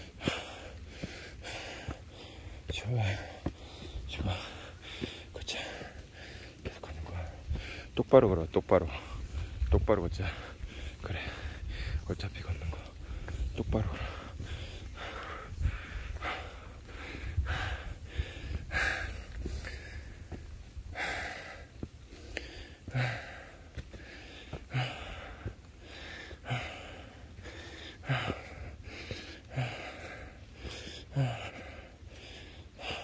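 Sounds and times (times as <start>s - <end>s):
heavy rhythmic breathing: 0.0s - 33.0s.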